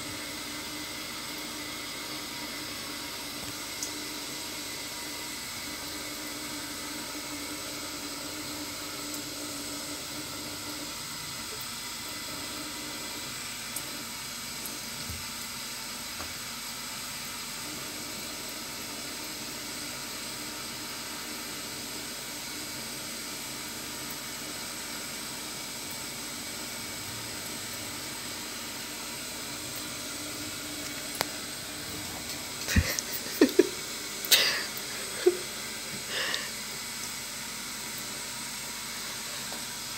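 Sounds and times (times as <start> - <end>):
tap water running into sink: 0.0 - 39.9.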